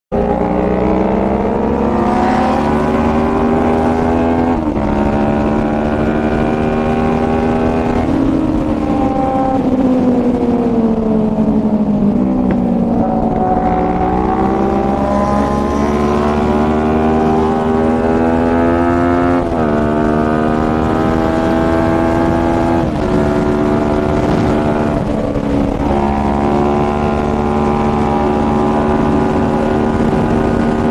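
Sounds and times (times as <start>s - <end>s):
motorcycle engine accelerating: 0.1s - 30.9s.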